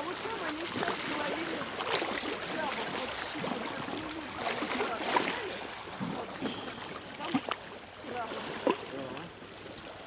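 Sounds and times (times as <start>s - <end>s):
water lapping against rocks: 0.0s - 10.0s.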